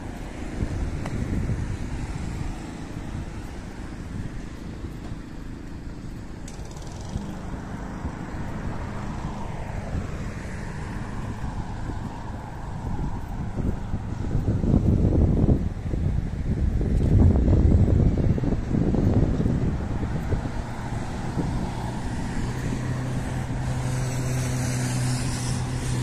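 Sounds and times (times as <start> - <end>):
road traffic: 0.0 - 26.0
vehicle passing: 0.0 - 26.0
wind rumble on microphone: 0.0 - 26.0.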